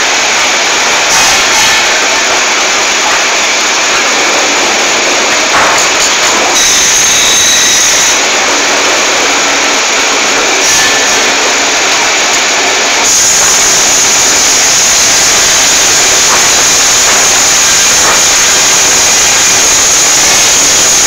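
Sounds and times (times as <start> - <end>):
high machine whine: 0.0 - 21.0
sawmill machinery running: 0.0 - 21.0.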